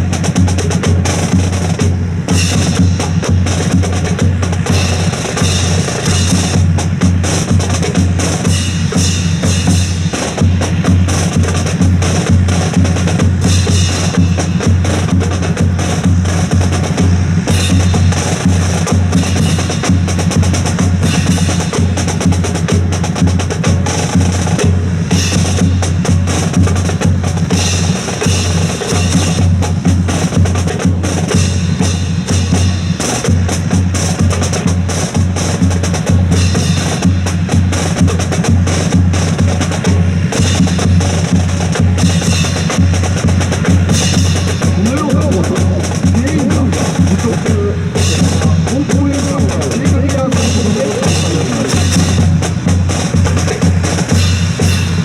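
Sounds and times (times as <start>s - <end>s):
steady drum beat: 0.0s - 55.0s.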